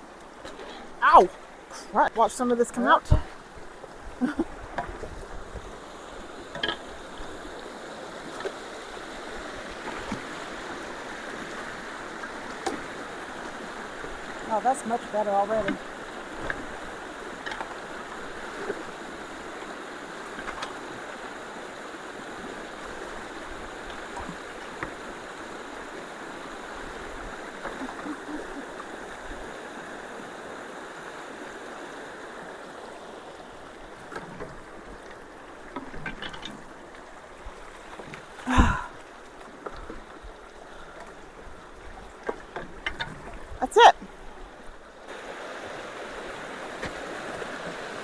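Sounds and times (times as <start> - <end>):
creek water rushing through culvert: 0.0 - 48.0.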